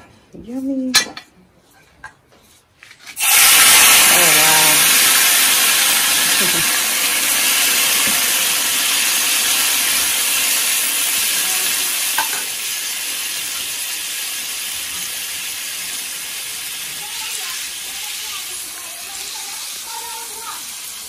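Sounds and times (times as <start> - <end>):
food sizzling in hot oil: 3.2 - 21.0.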